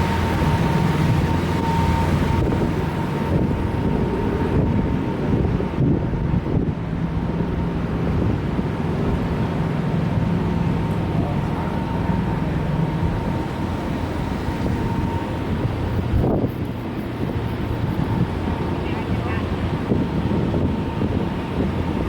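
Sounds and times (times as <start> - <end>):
boat motor humming: 0.0 - 22.0
thin steady whine: 0.0 - 22.0
wind on microphone: 0.0 - 22.0.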